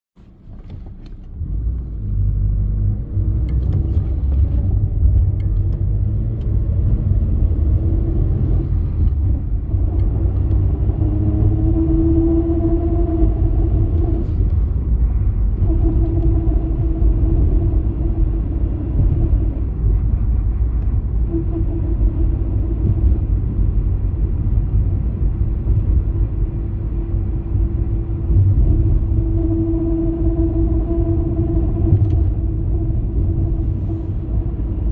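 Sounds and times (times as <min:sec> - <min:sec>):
road and drivetrain rumble: 0:00.1 - 0:34.9
car hum: 0:00.2 - 0:34.9.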